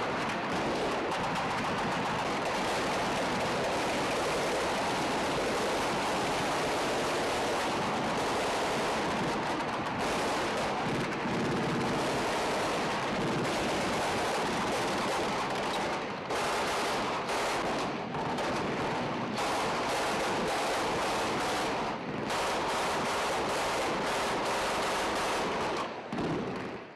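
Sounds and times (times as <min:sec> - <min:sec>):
automatic gunfire: 0:00.3 - 0:26.8.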